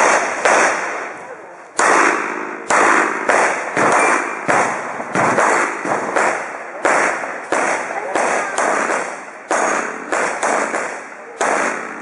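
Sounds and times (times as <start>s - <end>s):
handgun shots echoing: 1.8s - 12.0s.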